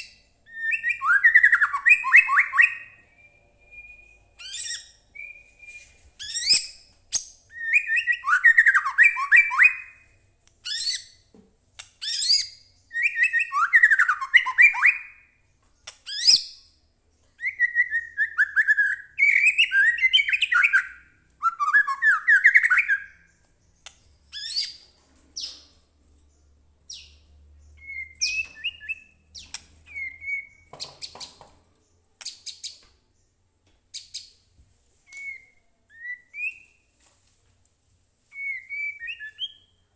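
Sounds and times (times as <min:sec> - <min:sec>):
songbird singing: 0:00.0 - 0:11.3, 0:12.0 - 0:37.0, 0:38.4 - 0:39.9.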